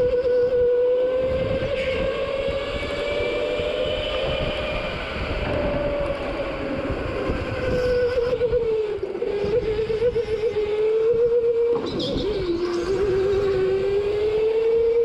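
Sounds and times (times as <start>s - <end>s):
go-kart motor running: 0.0s - 15.0s
road and wind noise: 0.0s - 15.0s.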